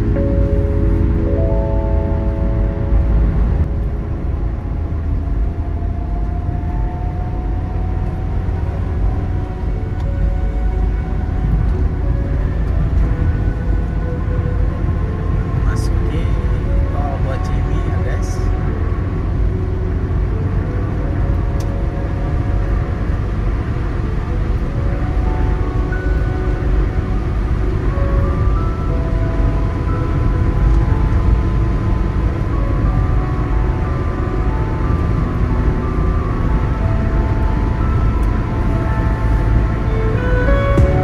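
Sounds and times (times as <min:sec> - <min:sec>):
car road and engine rumble: 0:00.0 - 0:41.0.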